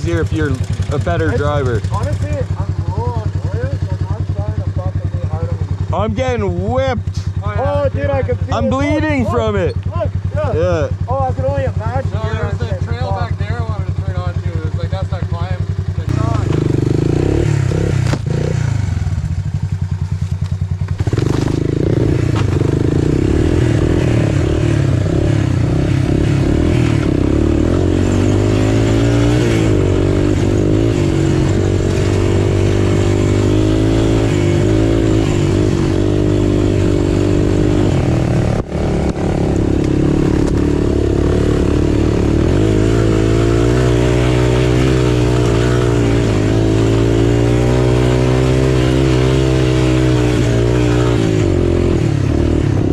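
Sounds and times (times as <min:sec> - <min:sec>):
single-cylinder engine revving: 0:00.0 - 0:19.8, 0:20.7 - 0:52.9.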